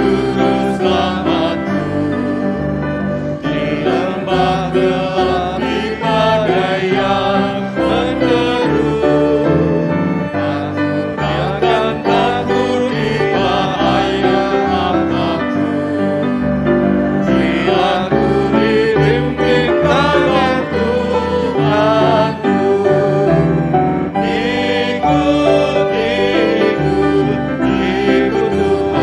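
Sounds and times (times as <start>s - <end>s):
congregation singing a hymn: 0.0s - 29.0s
organ holding bass notes: 0.0s - 29.0s
piano: 0.0s - 29.0s.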